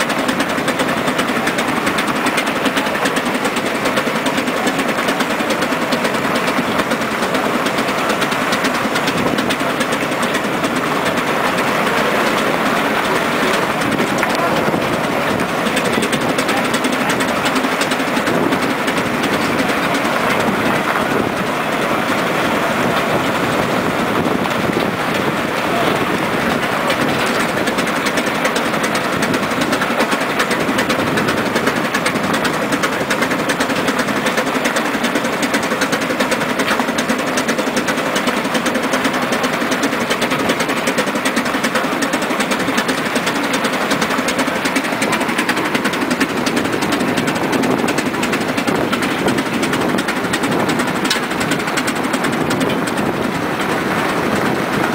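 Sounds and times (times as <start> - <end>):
steam engine machinery clattering: 0.0 - 54.9.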